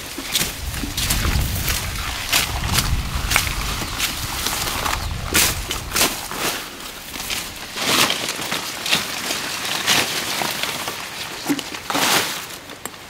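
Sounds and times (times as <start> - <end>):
dry vegetation crunching: 0.0 - 12.6.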